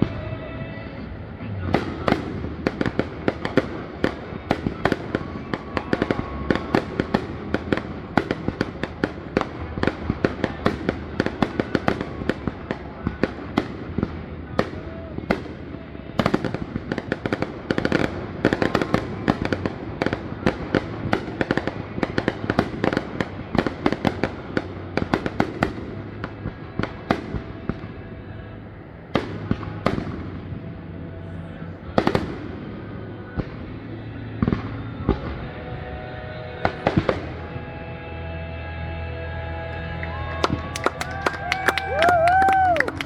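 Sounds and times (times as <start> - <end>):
fireworks bangs and crackles: 0.0 - 35.6, 36.6 - 37.6, 40.4 - 43.0.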